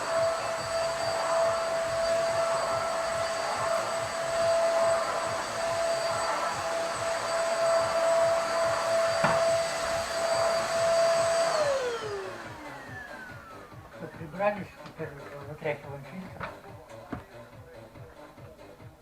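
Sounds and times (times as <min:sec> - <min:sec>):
vacuum cleaner motor whine: 0:00.0 - 0:16.6.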